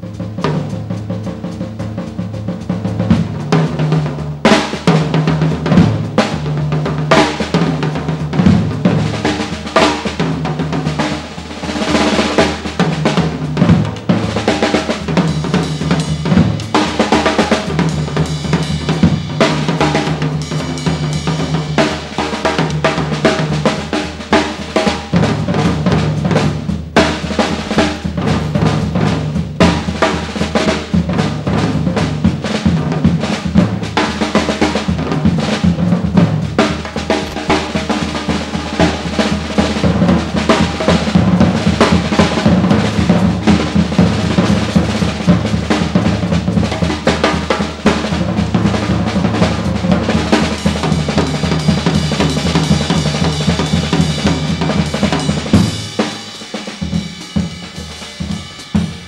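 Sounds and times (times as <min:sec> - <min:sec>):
jazz drum solo: 0:00.0 - 0:59.0
piano and bass vamp: 0:00.0 - 0:59.0.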